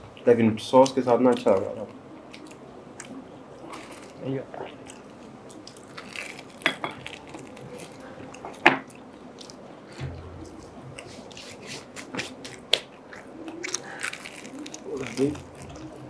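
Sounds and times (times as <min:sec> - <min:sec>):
wet chewing and biting: 0:02.3 - 0:09.6, 0:10.4 - 0:16.0.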